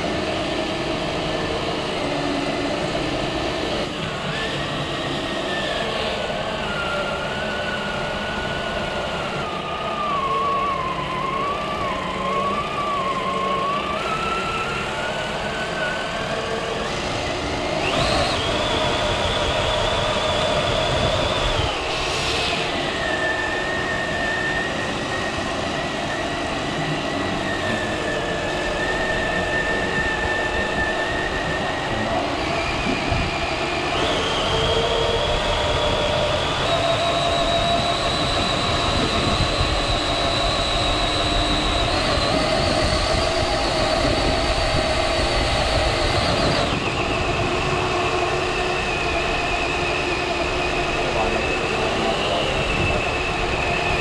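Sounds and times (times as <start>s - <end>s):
electric motor whining: 0.0s - 54.0s.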